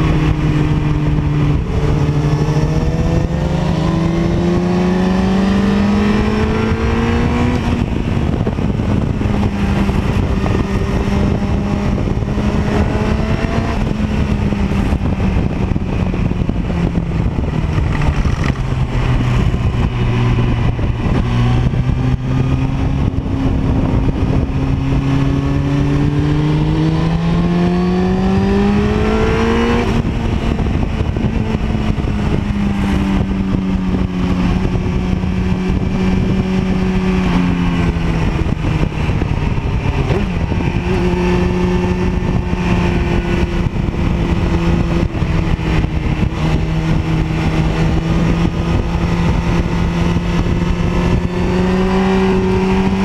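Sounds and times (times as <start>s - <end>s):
heavy wind rush: 0.0s - 53.0s
motorcycle engine revving at speed: 0.0s - 53.0s.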